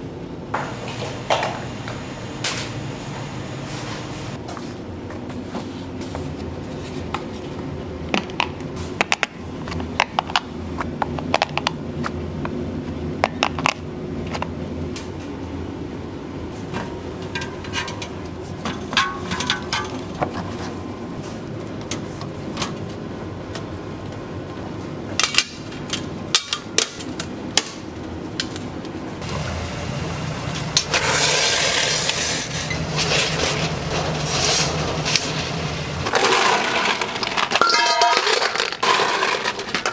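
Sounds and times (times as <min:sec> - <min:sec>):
kitchen equipment hum: 0:00.0 - 0:39.9.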